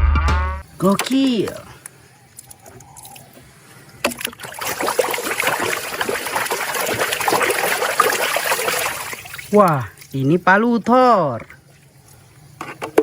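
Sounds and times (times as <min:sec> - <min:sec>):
running water splashing: 0:00.6 - 0:13.0.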